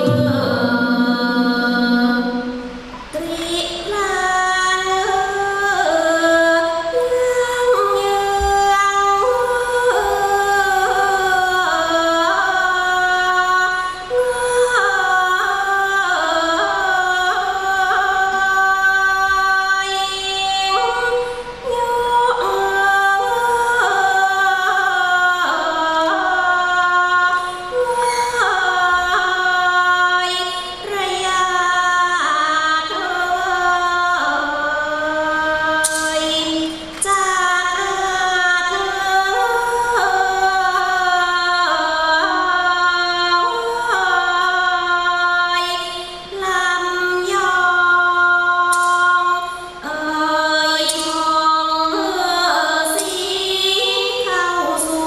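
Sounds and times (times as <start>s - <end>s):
woman singing slow classical song: 0.0s - 55.0s.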